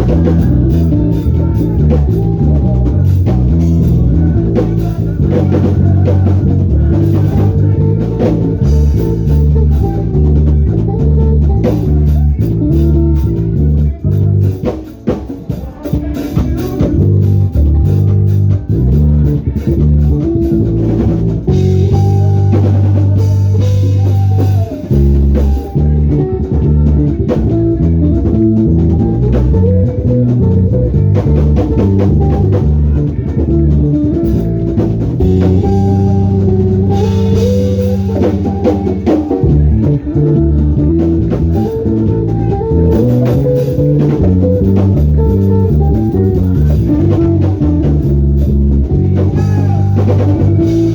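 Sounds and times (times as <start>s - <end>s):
bass guitar line: 0.0s - 50.9s
live band music: 0.0s - 50.9s.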